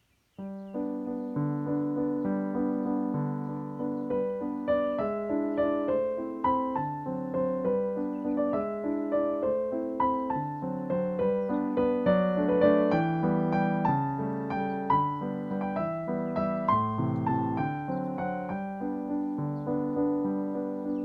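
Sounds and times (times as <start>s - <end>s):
gentle solo piano piece: 0.2s - 21.0s.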